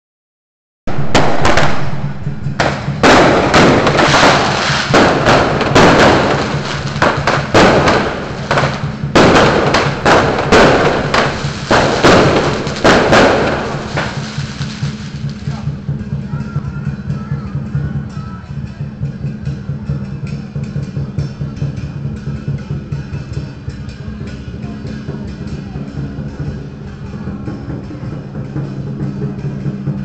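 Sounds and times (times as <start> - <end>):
firecrackers crackling: 0.9 - 30.0.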